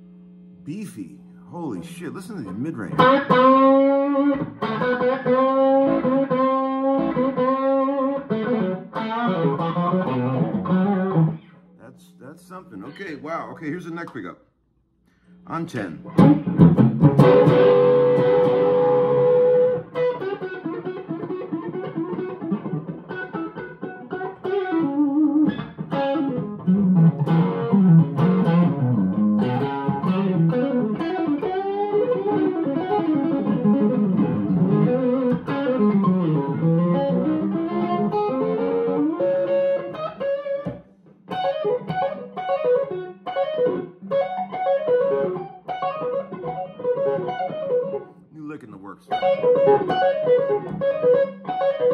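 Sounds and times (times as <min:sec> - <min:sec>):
electric guitar lead lines: 0:00.0 - 0:14.2, 0:15.1 - 0:51.9.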